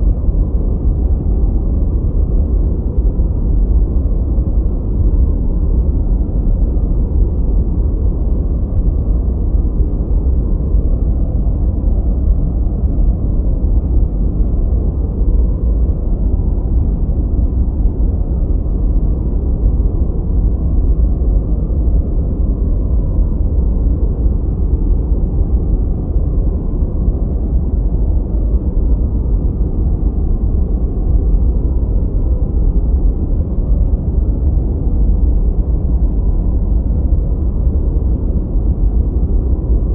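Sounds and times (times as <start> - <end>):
deep muffled low hiss: 0.0 - 39.9.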